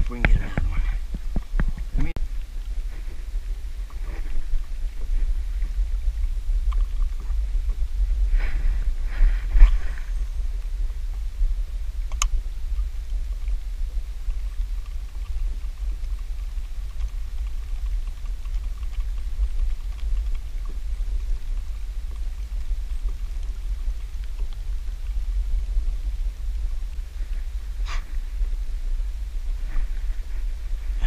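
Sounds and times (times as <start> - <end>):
faint ticks: 0.0 - 28.5
wind buffeting microphone: 0.0 - 31.0.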